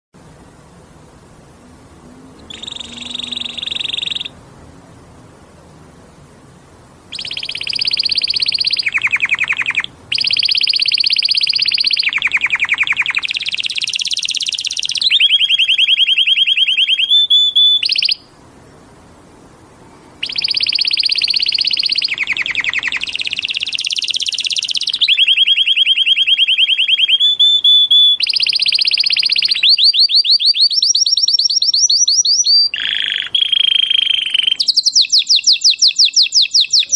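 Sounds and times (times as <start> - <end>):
canary singing trills: 1.5 - 6.2, 7.0 - 18.4, 20.0 - 36.9.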